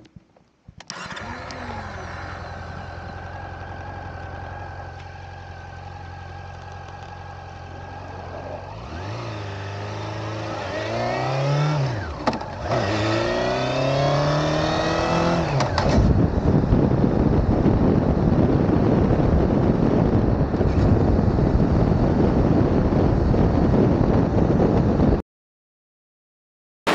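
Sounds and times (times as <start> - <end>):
motorcycle engine accelerating: 0.8 - 25.2.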